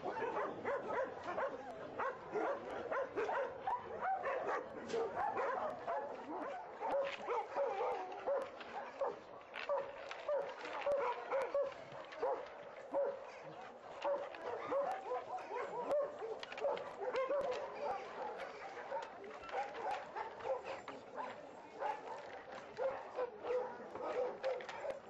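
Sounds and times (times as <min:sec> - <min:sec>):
many dogs barking and yipping: 0:00.0 - 0:25.0.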